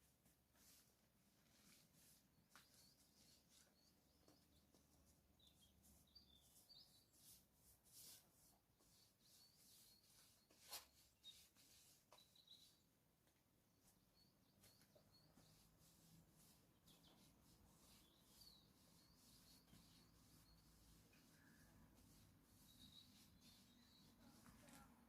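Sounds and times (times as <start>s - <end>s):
faint bird chirps: 1.6s - 13.0s, 13.7s - 25.0s.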